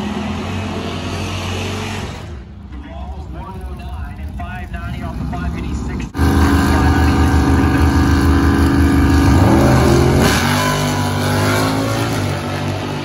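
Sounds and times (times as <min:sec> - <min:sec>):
drag racing engines revving: 0:00.0 - 0:13.0.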